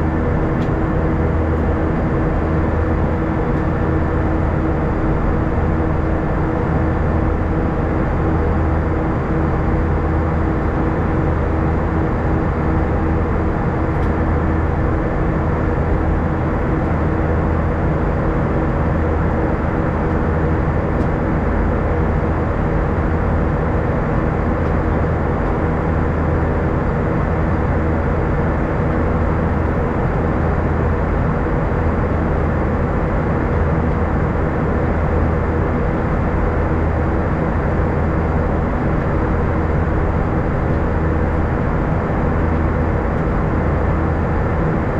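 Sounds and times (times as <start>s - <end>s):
airplane cabin airflow and engine drone: 0.0s - 44.9s.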